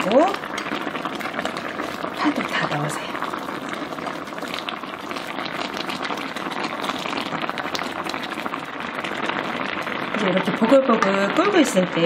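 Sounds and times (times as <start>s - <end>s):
stew boiling in a pot: 0.0s - 12.0s.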